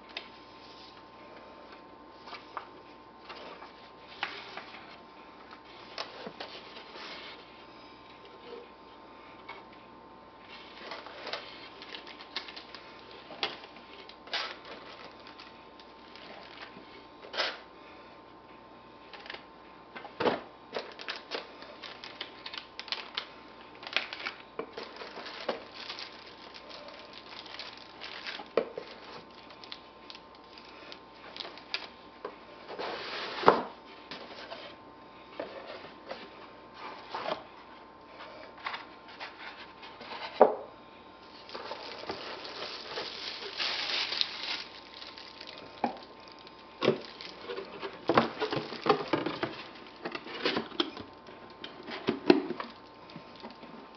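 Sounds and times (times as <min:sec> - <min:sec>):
cardboard and plastic rustling: 0:02.2 - 0:07.6, 0:10.4 - 0:17.6, 0:20.2 - 0:32.0, 0:32.6 - 0:40.6, 0:41.3 - 0:53.9.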